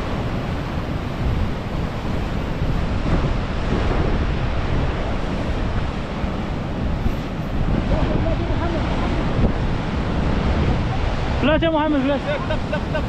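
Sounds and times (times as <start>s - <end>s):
surf breaking on rocks: 0.0s - 13.0s
wind buffeting microphone: 0.0s - 13.0s.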